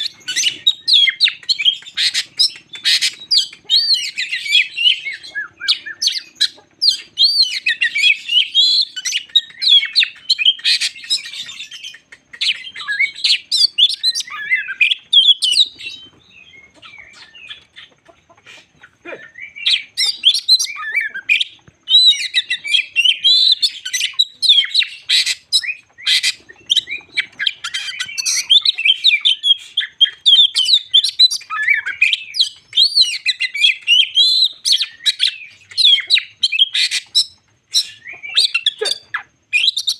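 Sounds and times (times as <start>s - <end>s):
bird singing whistles and trills: 0.0s - 17.9s, 19.2s - 39.9s.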